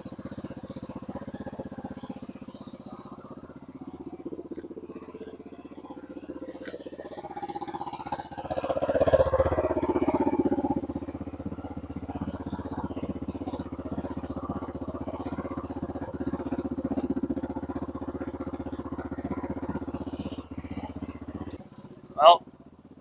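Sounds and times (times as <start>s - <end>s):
atv engine revving and idling: 0.0s - 23.0s.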